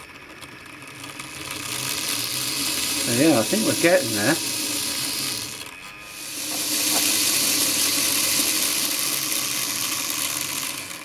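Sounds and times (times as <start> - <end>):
model locomotive motor whirring: 0.0 - 11.0.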